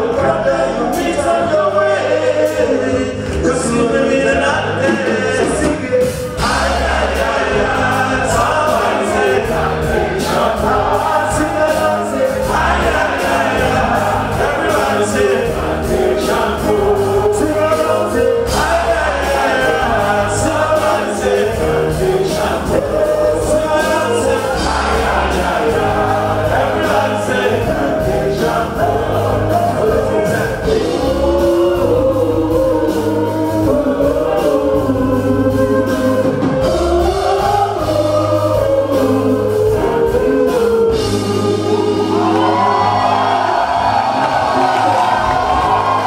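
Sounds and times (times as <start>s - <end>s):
group of voices singing: 0.0s - 46.0s
live band music: 0.0s - 46.0s.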